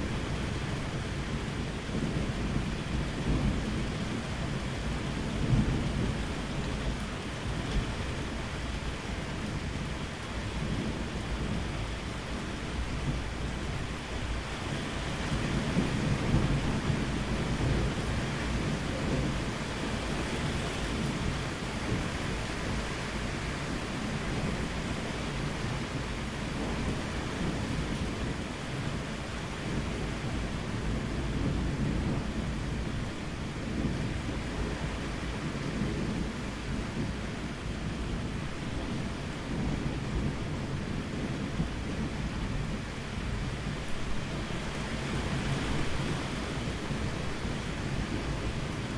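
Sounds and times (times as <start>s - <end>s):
rolling thunder: 0.0s - 48.9s
steady rain falling: 0.0s - 48.9s.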